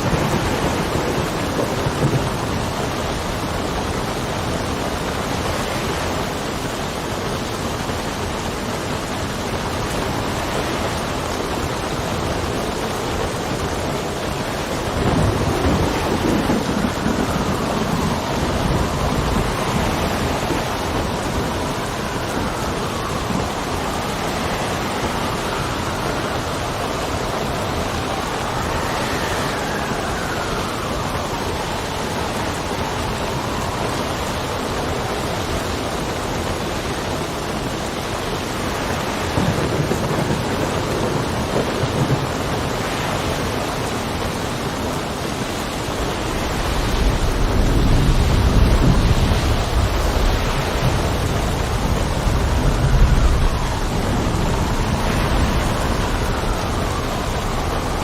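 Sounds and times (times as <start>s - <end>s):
heavy rain: 0.0s - 58.0s
thunder rumble: 0.0s - 58.0s
wind whistling: 0.0s - 58.0s.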